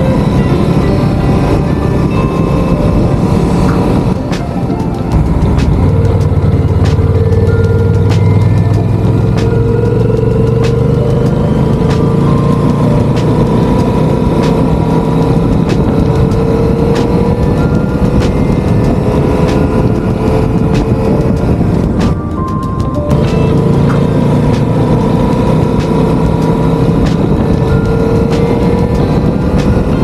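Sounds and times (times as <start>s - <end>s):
motorcycle engine: 0.0s - 30.0s
wind and road noise: 0.0s - 30.0s
sharp ticks: 3.7s - 30.0s.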